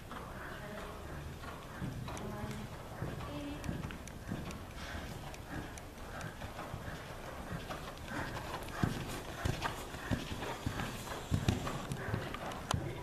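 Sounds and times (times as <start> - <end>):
horse hoofbeats cantering: 0.0 - 13.0.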